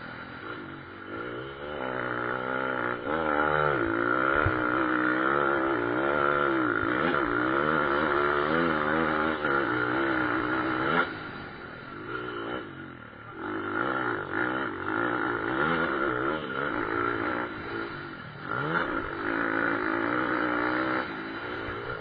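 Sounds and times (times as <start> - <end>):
pit bike engines revving: 0.0 - 22.0.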